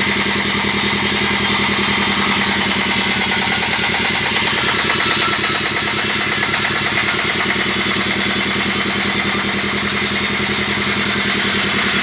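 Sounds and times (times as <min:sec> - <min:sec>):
sawmill engine drone: 0:00.0 - 0:12.0.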